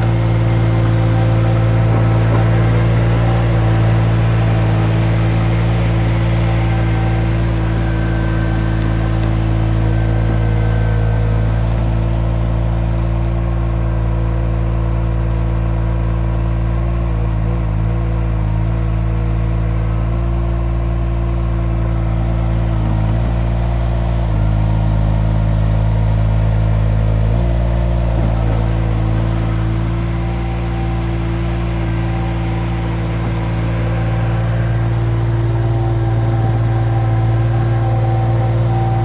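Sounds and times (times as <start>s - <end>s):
skid steer engine running: 0.0s - 39.0s.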